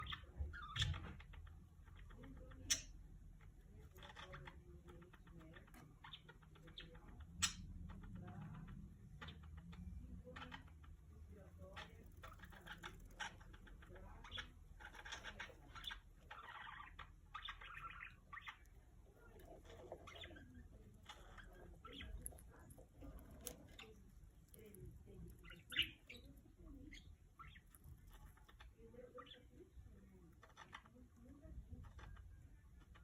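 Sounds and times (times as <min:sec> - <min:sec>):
pet bird clicks and rustles: 0:00.0 - 0:28.8.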